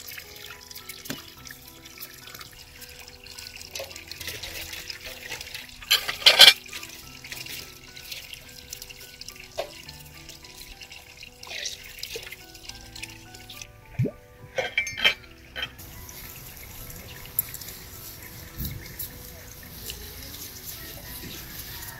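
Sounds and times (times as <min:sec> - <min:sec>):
soft background music: 0:00.0 - 0:21.9
water trickling into a stream: 0:00.0 - 0:21.9.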